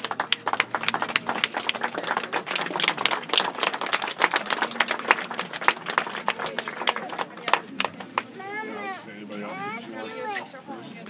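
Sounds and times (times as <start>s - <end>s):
small crowd applauding: 0.0s - 9.0s.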